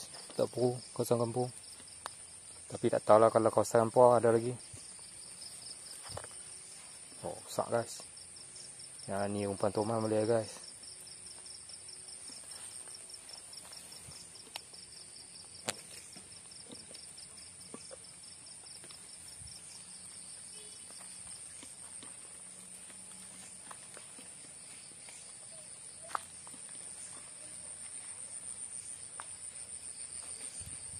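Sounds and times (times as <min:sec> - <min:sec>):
crickets droning: 0:00.0 - 0:30.9.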